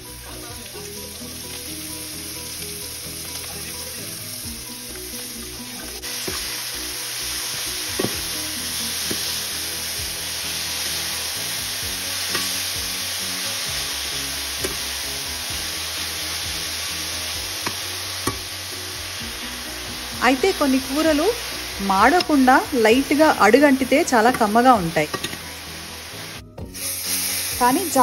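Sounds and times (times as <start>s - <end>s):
greens sizzling in hot oil: 0.0s - 28.0s.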